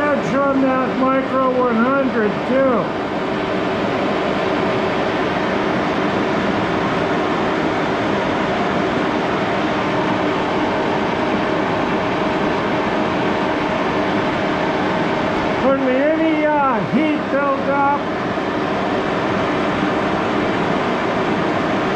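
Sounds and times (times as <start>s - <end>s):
lathe mechanical drone: 0.0s - 21.9s.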